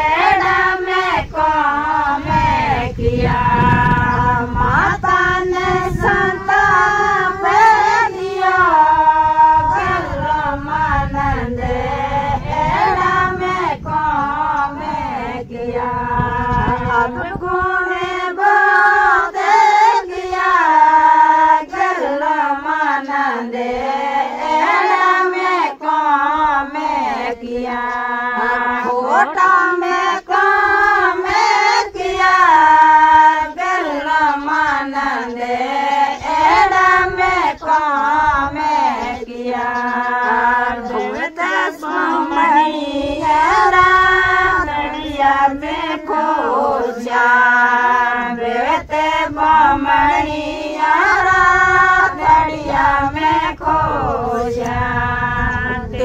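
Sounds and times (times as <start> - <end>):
women singing in unison: 0.0 - 56.0.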